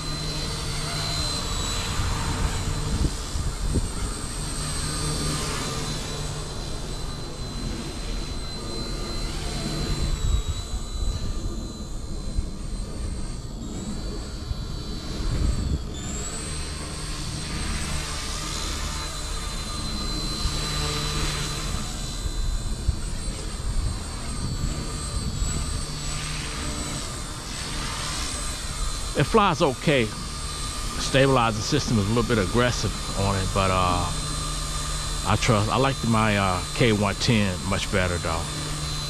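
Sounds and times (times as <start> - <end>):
helicopter motor and rotor whine: 0.0 - 39.0.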